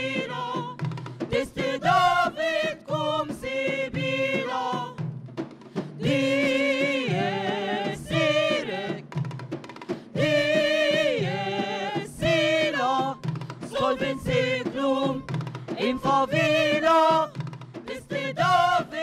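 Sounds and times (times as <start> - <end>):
mixed choir singing: 0.0 - 5.1, 5.8 - 9.3, 10.0 - 19.0
frame drums striking: 0.0 - 19.0.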